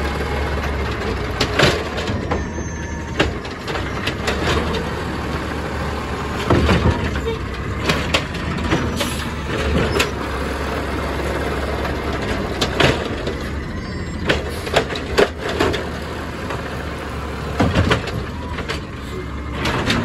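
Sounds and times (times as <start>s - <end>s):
cart banging and clattering: 0.0s - 20.0s
truck engine running: 0.0s - 20.0s.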